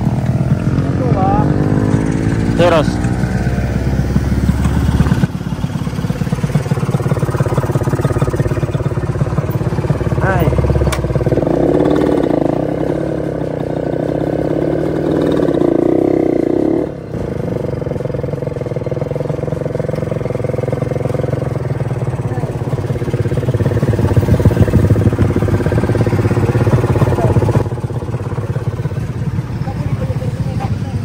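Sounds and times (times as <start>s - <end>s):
motorcycle engine idling: 0.0s - 31.0s
passing road traffic: 0.0s - 31.0s.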